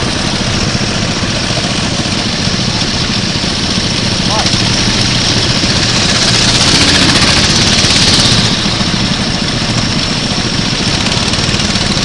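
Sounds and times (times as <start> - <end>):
kart engine running: 0.0 - 12.0.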